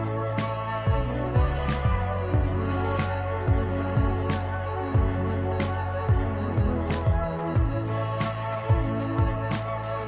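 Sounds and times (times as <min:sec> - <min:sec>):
background music with sustained chords: 0:00.0 - 0:10.0
deep kick drums: 0:00.9 - 0:02.8, 0:03.5 - 0:09.6.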